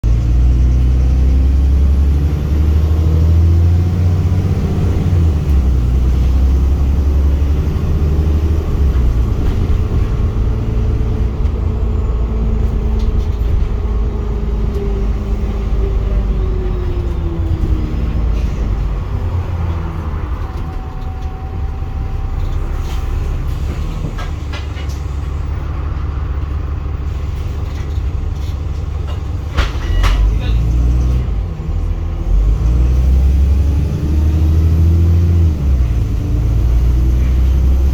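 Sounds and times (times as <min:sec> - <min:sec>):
bus diesel engine rumbling: 0:00.0 - 0:37.9.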